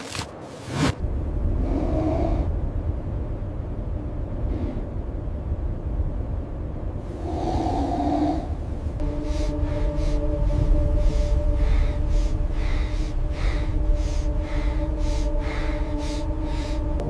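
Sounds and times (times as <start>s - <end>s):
blizzard wind rumbling: 0.1s - 17.0s
hollow wind howls: 0.3s - 17.0s.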